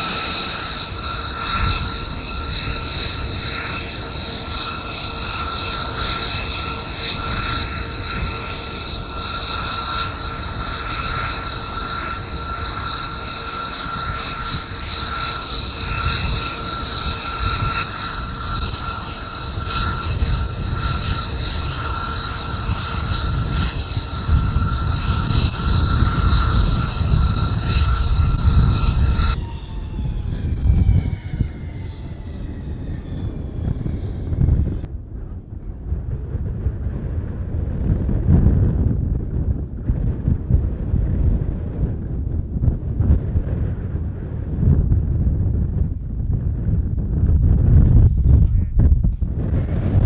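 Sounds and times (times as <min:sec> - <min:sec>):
jet turbine whine: 0:00.0 - 0:50.0
low rumble: 0:00.0 - 0:50.0.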